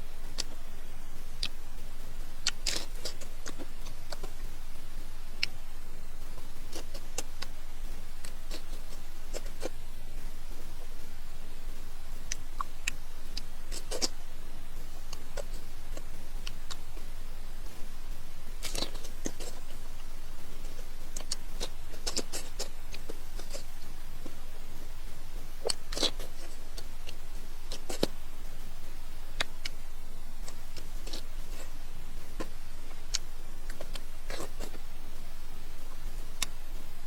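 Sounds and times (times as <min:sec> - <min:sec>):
crunching and chewing food: 0:00.0 - 0:37.0.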